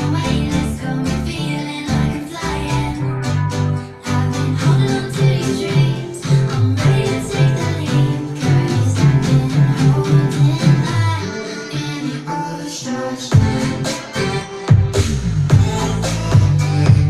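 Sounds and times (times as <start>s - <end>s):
guitar music through speakers: 0.0s - 11.2s, 13.3s - 17.0s
strong bass line: 0.0s - 11.2s, 13.3s - 17.0s.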